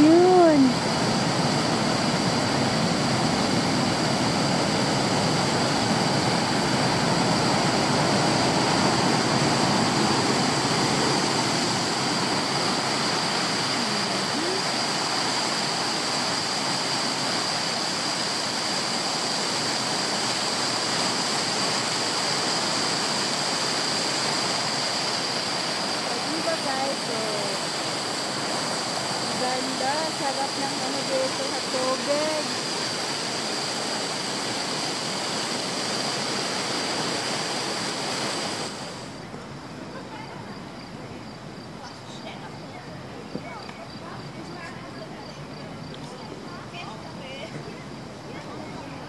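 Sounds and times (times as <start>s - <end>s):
water rushing over weir: 0.0s - 40.4s.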